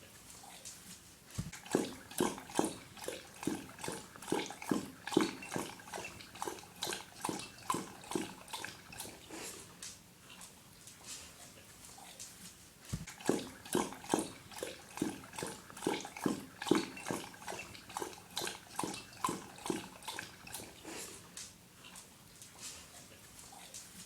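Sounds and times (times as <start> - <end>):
dog lapping water: 1.3 - 11.8, 12.8 - 23.9.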